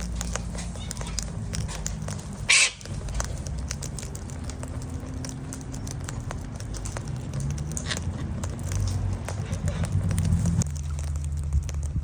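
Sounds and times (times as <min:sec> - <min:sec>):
beaks pecking and cracking seed: 0:00.0 - 0:11.9
low steady rumble: 0:00.0 - 0:12.0.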